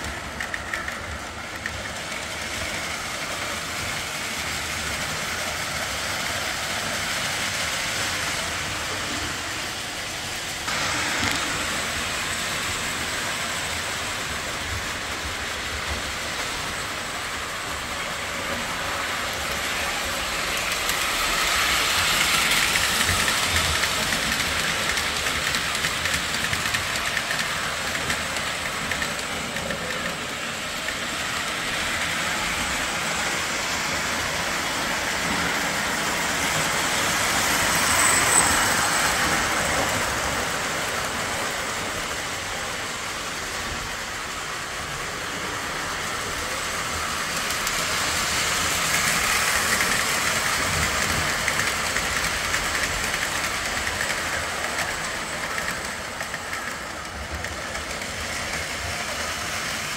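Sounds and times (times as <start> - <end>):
model train rumbling on track: 0.0 - 59.9.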